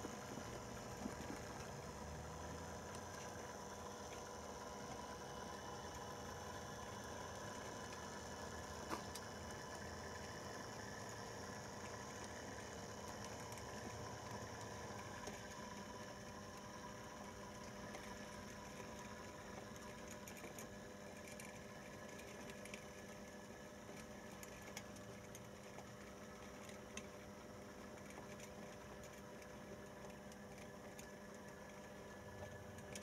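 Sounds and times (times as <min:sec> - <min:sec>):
model train motor humming: 0:00.0 - 0:33.0
wheels clicking on track: 0:00.0 - 0:33.0.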